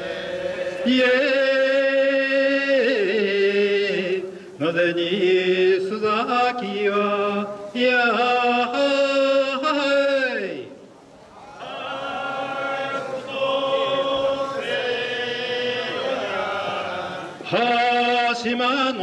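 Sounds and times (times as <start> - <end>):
men chanting: 0.0 - 9.7, 11.5 - 19.0.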